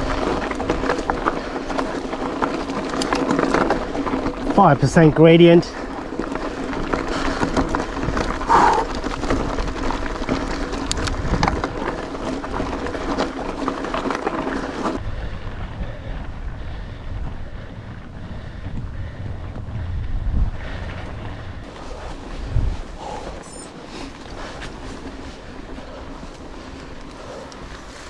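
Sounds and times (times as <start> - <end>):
mountain bike tyre and drivetrain noise: 0.0 - 28.0
wind buffeting microphone: 0.0 - 28.0.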